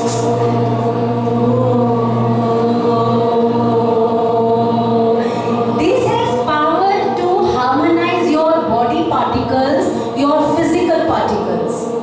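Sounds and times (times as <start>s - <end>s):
voices chanting a low tone: 0.0s - 12.0s.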